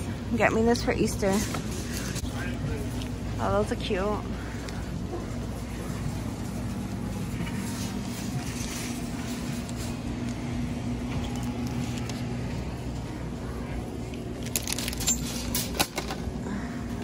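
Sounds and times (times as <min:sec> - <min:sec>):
supermarket background hum: 0:00.0 - 0:17.0.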